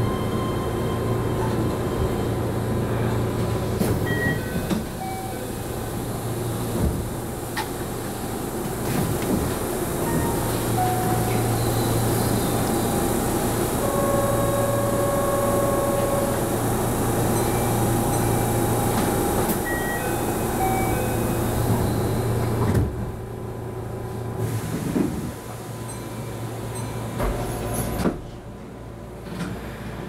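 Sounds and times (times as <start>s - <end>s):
train electrical hum: 0.0s - 30.0s.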